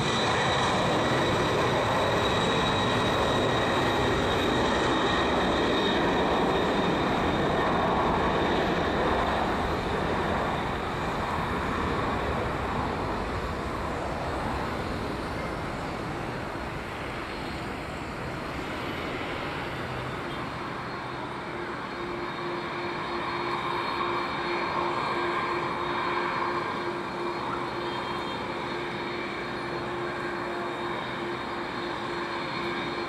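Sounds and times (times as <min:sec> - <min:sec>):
jet engines at takeoff: 0:00.0 - 0:33.0.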